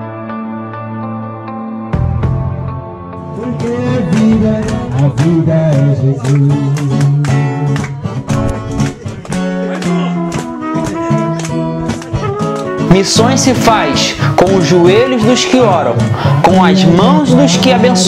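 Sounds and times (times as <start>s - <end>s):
strummed guitar music: 0.0s - 18.0s.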